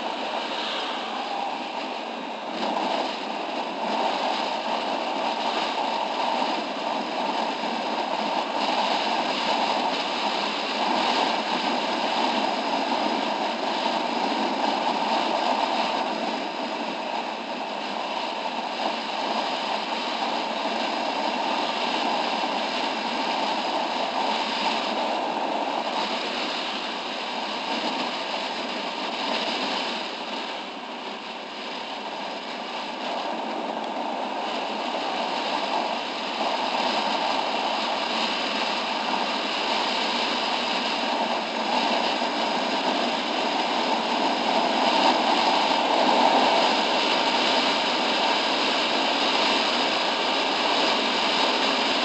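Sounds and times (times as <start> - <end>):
wind rush over microphone: 0.0 - 52.0.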